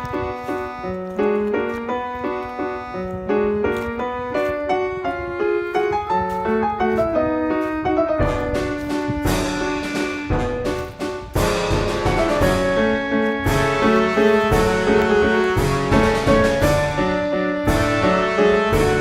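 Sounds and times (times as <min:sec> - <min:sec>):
light classical piano music: 0:00.0 - 0:19.0.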